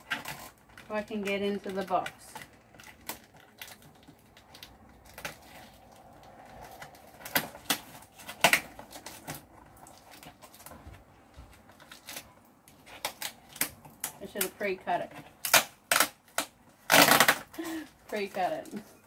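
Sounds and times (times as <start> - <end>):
box tape and cardboard crackling: 0.0 - 19.0.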